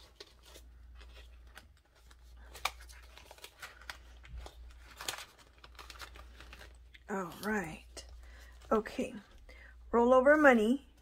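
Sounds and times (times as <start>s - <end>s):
paper banknotes rustling: 0.0s - 9.3s.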